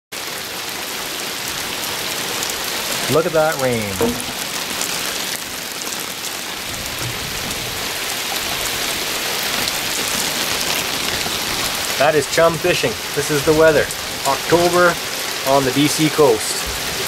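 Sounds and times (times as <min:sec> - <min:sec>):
heavy rain on sea surface: 0:00.2 - 0:17.0.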